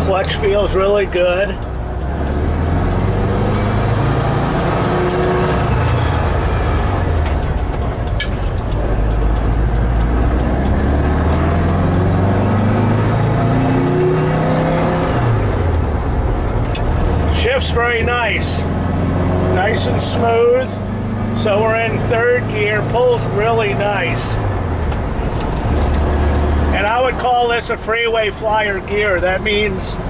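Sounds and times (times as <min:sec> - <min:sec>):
van engine accelerating: 0:00.0 - 0:30.0.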